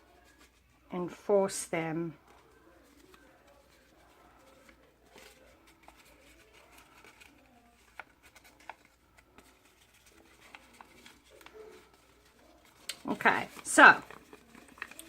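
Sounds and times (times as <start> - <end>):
handling card stock: 2.2 - 15.0.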